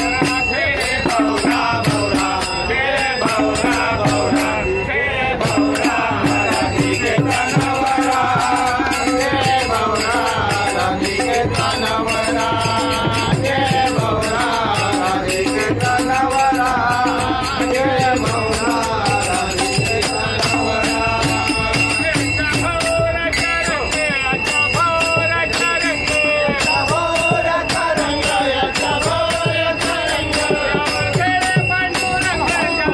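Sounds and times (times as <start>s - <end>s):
hand cymbals struck: 0.0s - 32.9s
men singing devotional song: 0.0s - 32.9s.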